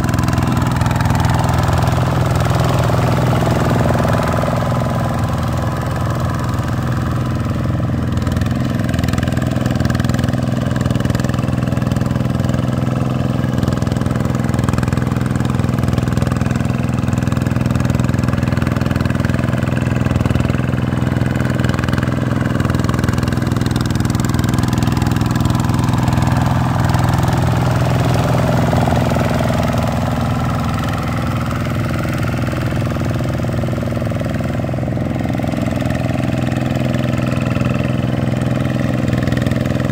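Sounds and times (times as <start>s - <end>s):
diesel engine running under load: 0.0s - 39.9s
wheels working through mud: 0.0s - 39.9s.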